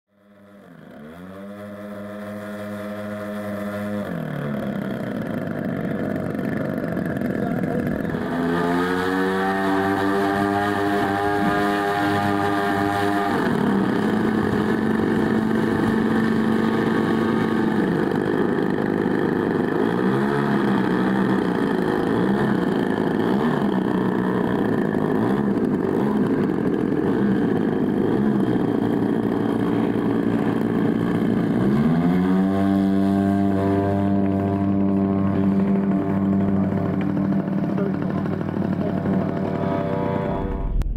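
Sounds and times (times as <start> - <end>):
model airplane engines revving: 0.1 - 40.9.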